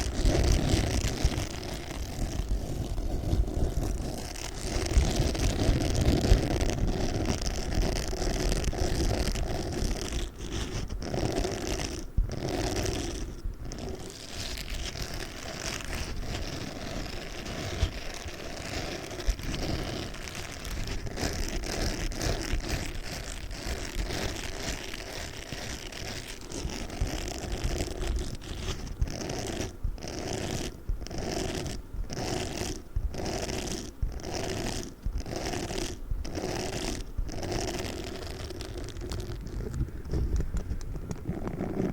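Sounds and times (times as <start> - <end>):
spiky sponge scratching rustle: 0.0 - 41.9.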